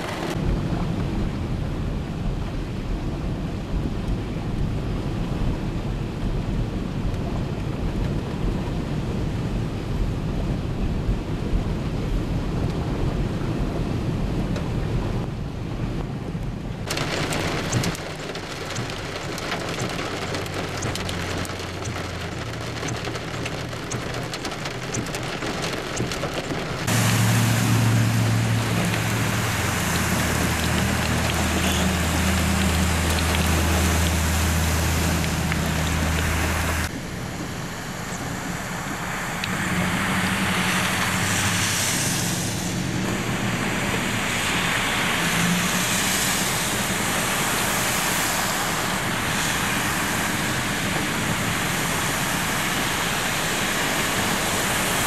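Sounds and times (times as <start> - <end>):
cars splashing through water: 0.0 - 55.0
heavy rain: 0.0 - 55.0
low engine hum: 0.0 - 55.0.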